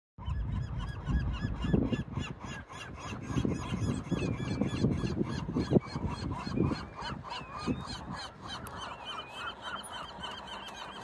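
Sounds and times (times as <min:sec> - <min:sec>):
gulls calling: 0:00.2 - 0:11.0.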